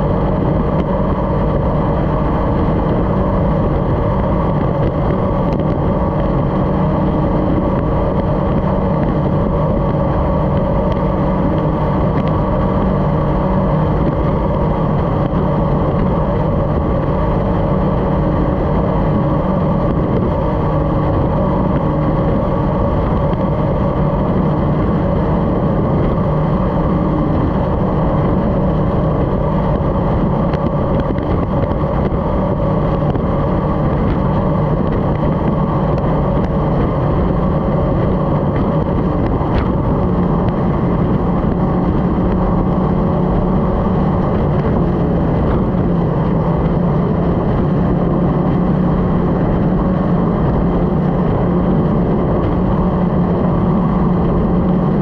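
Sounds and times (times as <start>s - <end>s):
powerboat engine running: 0.0s - 55.0s.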